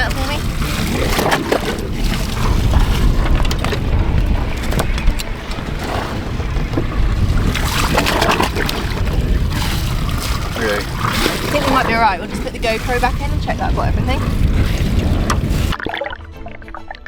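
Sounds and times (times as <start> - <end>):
scattered knocks: 0.0 - 15.6
wind buffeting microphone: 0.0 - 15.8
sea water washing: 0.0 - 16.9.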